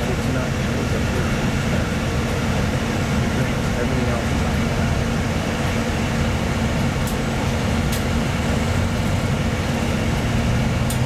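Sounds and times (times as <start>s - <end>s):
bus engine and ventilation drone: 0.0s - 11.0s.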